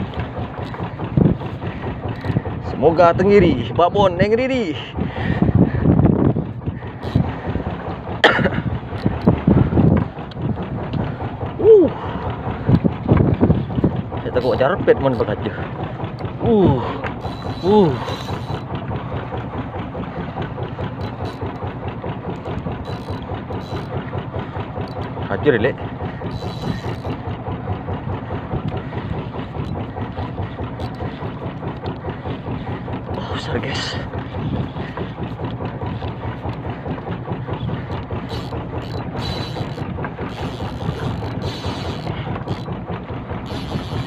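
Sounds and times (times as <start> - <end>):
boat engine running: 0.0 - 44.0.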